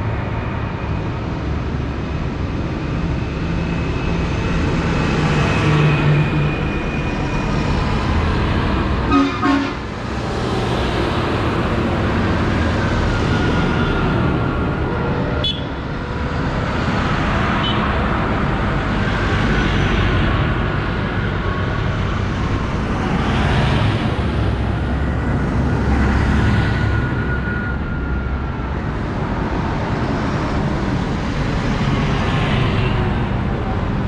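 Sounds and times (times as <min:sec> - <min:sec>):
tractor diesel engines passing: 0:00.0 - 0:34.0.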